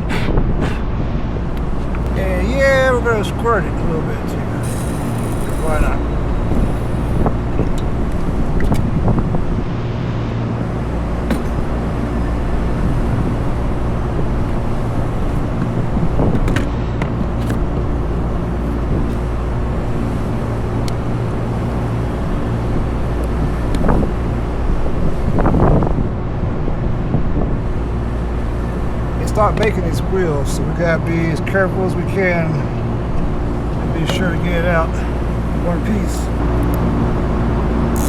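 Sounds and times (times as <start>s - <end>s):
rooftop machinery drone: 0.0s - 38.0s.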